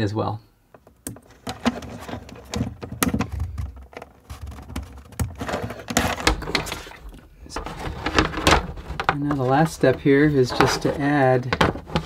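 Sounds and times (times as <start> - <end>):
hands rustling electrical wire: 0.7 - 12.0.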